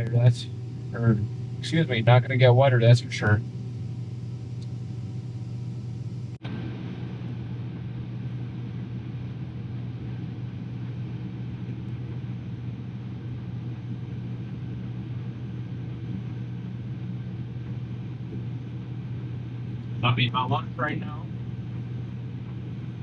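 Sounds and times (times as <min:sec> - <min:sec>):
combine harvester droning: 0:00.0 - 0:23.0.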